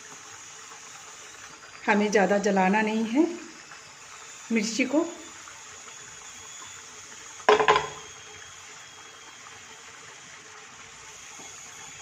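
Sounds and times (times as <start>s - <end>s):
spices sizzling in ghee: 0.0s - 12.0s.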